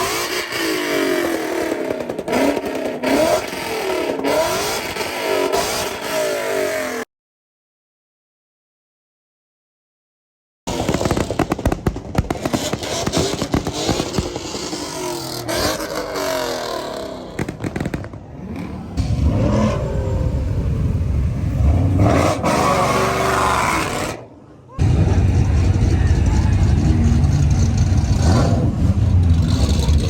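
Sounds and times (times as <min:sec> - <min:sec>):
car engine revving: 0:00.0 - 0:07.0, 0:12.4 - 0:30.0.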